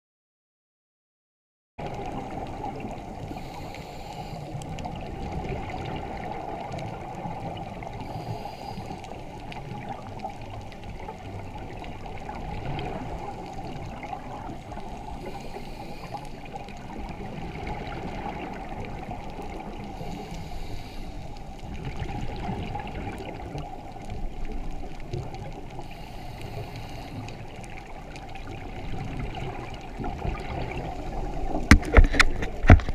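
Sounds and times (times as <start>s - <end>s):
exhaled bubbles hissing: 1.8s - 32.7s
muffled underwater rush: 1.8s - 32.9s.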